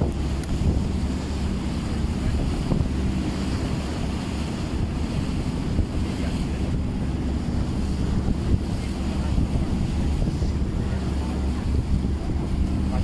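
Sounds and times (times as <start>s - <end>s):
choppy sea water: 0.0s - 13.0s
wind rumbling on microphone: 0.0s - 13.0s.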